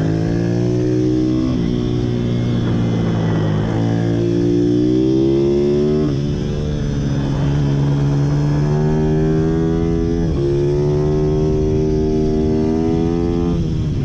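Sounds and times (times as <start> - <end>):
motorbike engine revving: 0.0 - 14.0.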